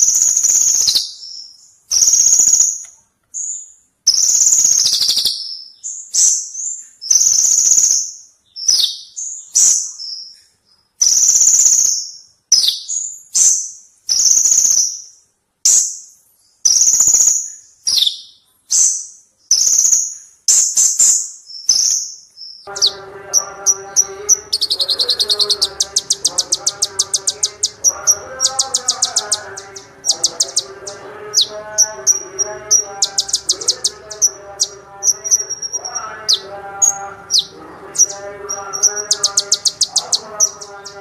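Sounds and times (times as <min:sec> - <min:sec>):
bird singing: 0:00.0 - 0:41.0.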